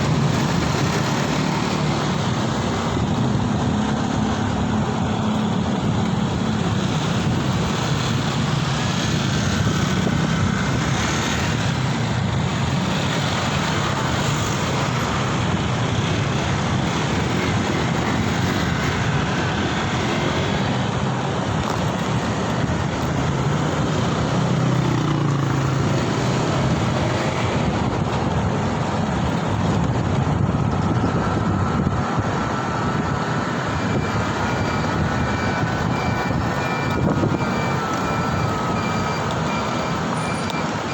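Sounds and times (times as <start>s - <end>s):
city traffic noise: 0.0s - 40.9s
wind rush: 0.0s - 40.9s.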